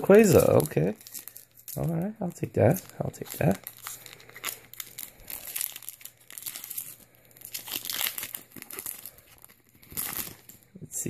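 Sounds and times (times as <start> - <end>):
foil pack tearing and crinkling: 0.0 - 2.0, 2.6 - 10.7.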